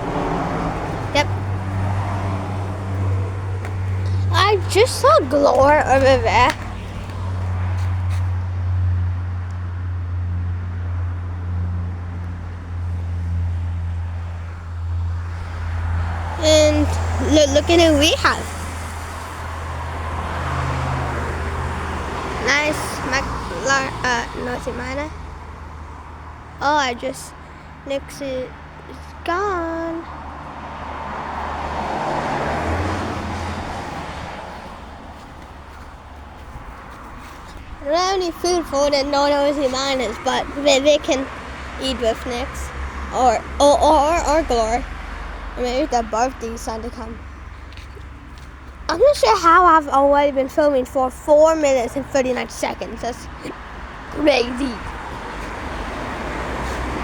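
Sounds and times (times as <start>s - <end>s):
vehicle passing by: 0.0s - 57.0s.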